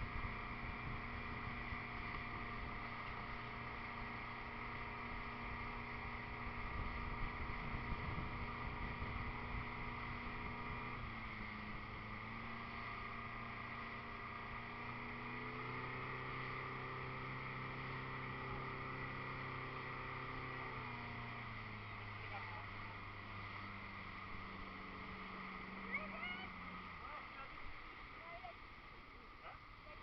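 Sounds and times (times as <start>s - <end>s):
motorboat engine running: 0.0s - 30.0s
rough low rumbling: 0.0s - 30.0s.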